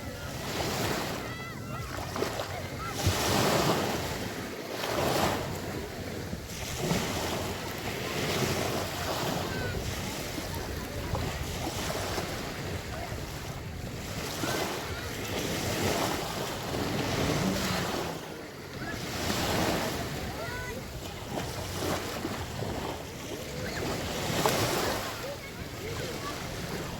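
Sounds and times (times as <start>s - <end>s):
surf breaking on shore: 0.0s - 26.9s
wind on microphone: 0.0s - 26.9s.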